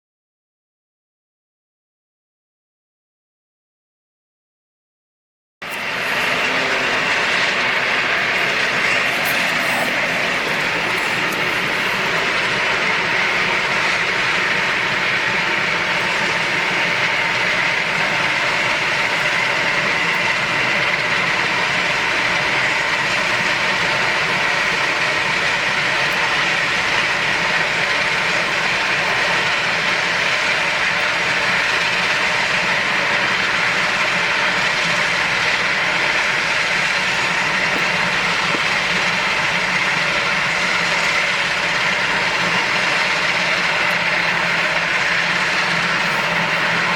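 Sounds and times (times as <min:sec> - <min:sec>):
aircraft engine rushing whine: 0:05.6 - 0:46.9.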